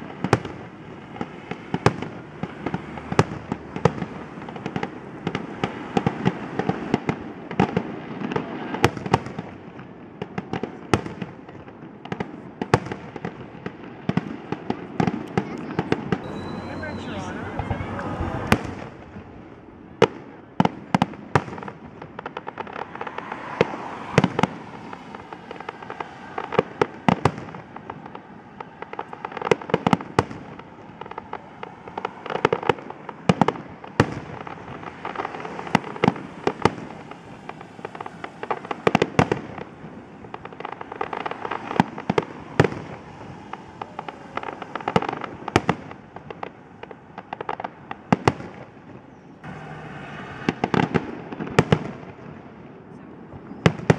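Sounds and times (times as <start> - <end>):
background rumble and crackle: 0.0 - 49.6.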